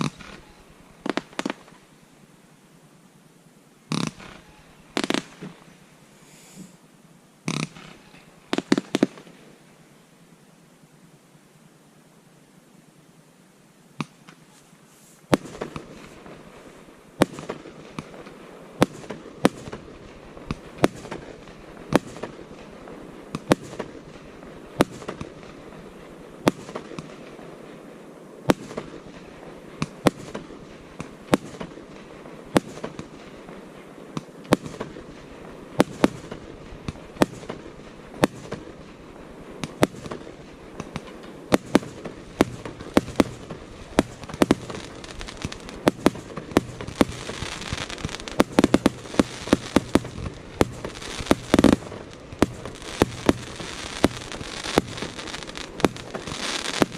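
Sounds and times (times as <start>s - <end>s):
fireworks bangs: 0.0s - 1.8s, 3.9s - 6.8s, 7.5s - 9.4s, 14.0s - 56.9s
continuous hiss: 0.0s - 56.9s.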